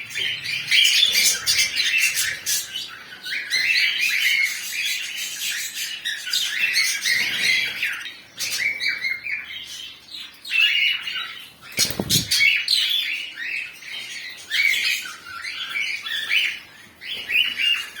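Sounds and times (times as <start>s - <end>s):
budgerigars chattering and squawking: 0.0s - 18.0s.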